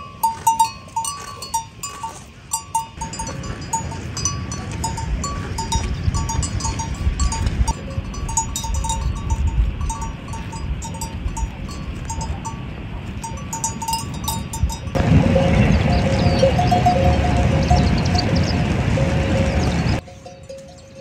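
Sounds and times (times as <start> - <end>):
livestock bells clinking: 0.0 - 21.0
steady low rumble: 2.5 - 20.0.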